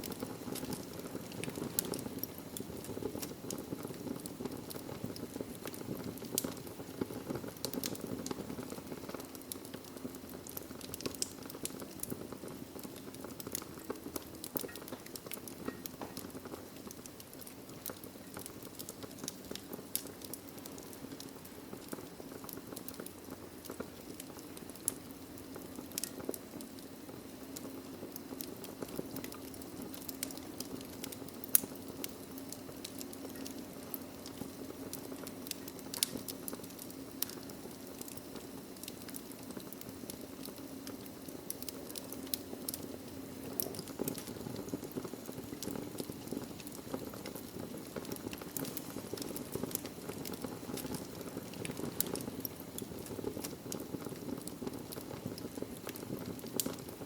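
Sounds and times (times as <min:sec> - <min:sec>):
fire crackling and popping: 0:00.0 - 0:57.0
low rush of flame: 0:00.0 - 0:57.0.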